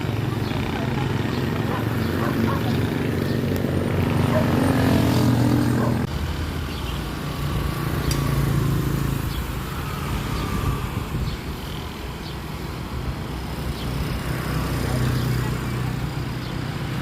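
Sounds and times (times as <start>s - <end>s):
road traffic engines: 0.0s - 17.0s.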